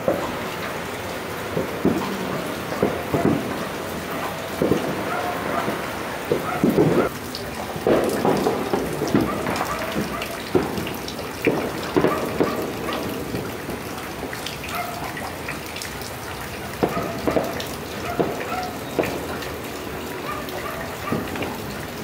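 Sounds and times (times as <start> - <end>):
distant fireworks bangs: 0.0 - 22.0
steady rain falling: 0.0 - 22.0.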